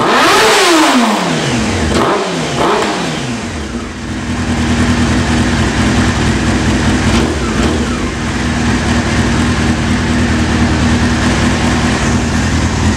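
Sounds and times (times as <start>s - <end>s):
motorcycle engine echoing in garage: 0.0s - 12.9s.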